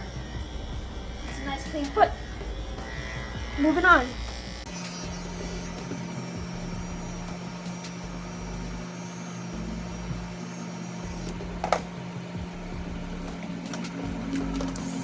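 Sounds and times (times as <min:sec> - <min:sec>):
electric clipper humming: 0:00.0 - 0:15.0.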